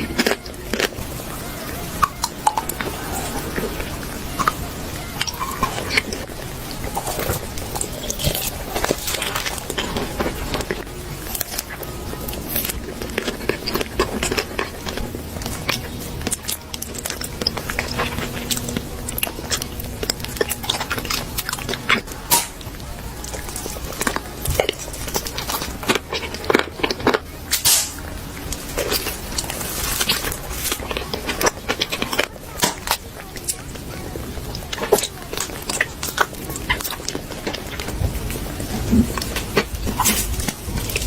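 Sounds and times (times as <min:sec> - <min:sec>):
person biting and chewing food: 0:00.0 - 0:33.7
sharp crunches and clicks: 0:00.0 - 0:41.0.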